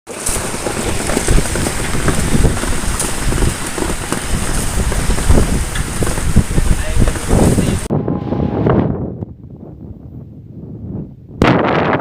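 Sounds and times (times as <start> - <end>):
gusty wind on microphone: 0.1 - 12.0.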